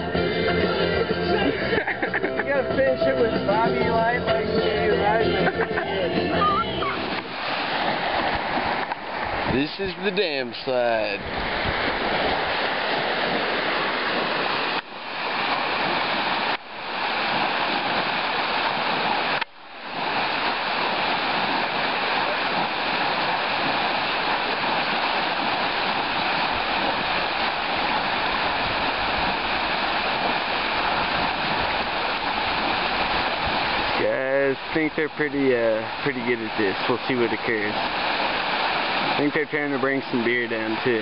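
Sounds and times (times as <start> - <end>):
water rushing down spillway: 0.0 - 41.0.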